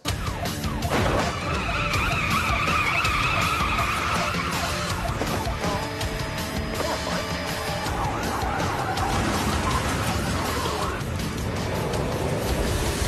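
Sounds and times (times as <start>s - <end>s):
engine and road noise: 0.0s - 13.0s
music: 0.0s - 13.0s
car tyres screeching: 1.1s - 13.0s.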